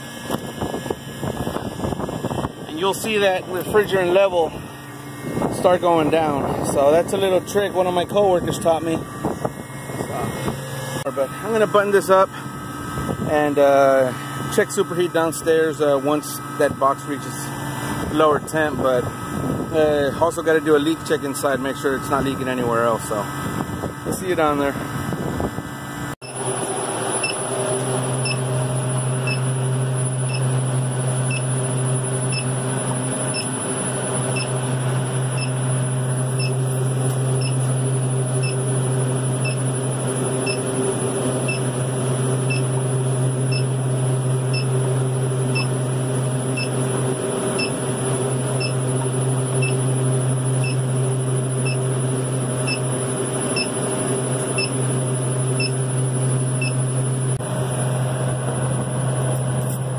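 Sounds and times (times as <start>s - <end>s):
refrigeration unit humming: 0.0s - 59.9s.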